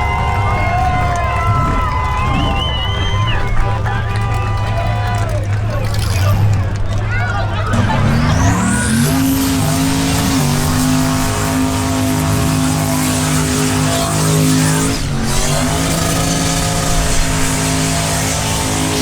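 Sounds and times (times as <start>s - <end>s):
engine revving high: 0.0s - 19.0s.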